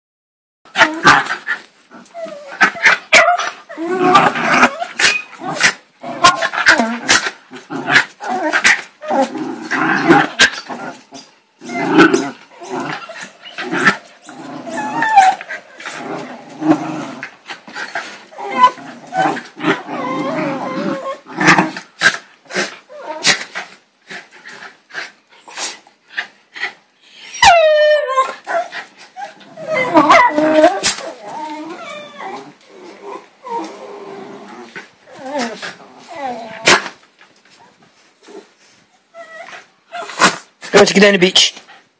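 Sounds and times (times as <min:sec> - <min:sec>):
dogs growling and snarling: 0:00.7 - 0:26.8, 0:27.4 - 0:37.0.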